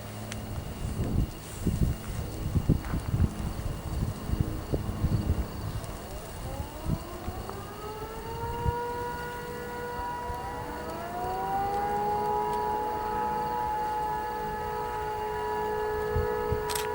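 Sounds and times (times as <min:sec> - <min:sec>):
jet engines spooling up: 0:00.0 - 0:16.9.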